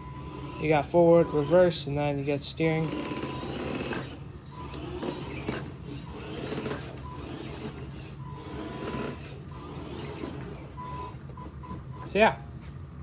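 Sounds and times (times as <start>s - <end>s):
small electric motors whirring: 0.0s - 12.2s
steady low hum: 0.0s - 13.0s.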